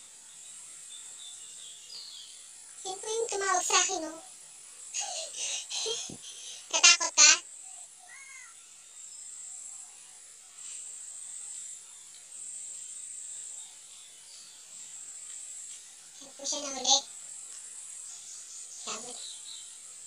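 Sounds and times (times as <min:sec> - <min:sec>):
insects buzzing high-pitched: 0:00.0 - 0:20.0.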